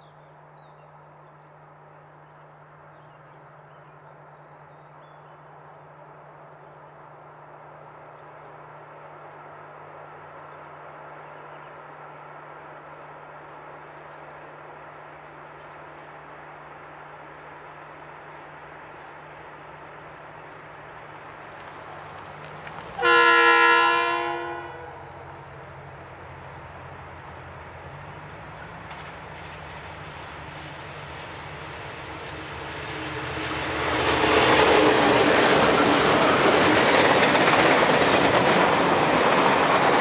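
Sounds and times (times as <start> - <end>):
diesel locomotive engine rumble: 5.3 - 40.0.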